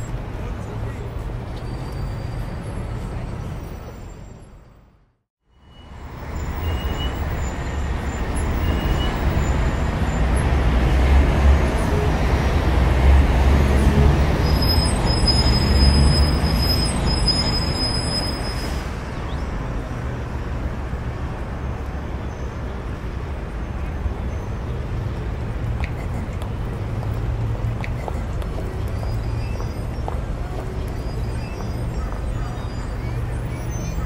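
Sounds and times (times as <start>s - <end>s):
heavy diesel engines rumbling: 5.7s - 34.0s.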